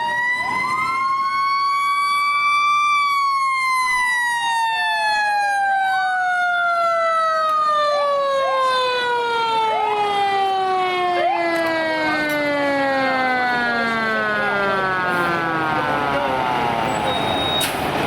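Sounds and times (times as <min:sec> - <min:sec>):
fire engine siren winding down: 0:00.0 - 0:18.0
rising siren sweeps: 0:00.0 - 0:18.0
truck engine and road noise: 0:00.0 - 0:18.0.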